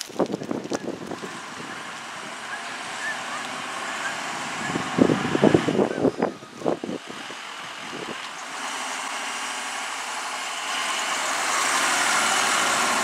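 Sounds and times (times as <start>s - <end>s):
ambulance engine passing by: 0.8s - 13.0s.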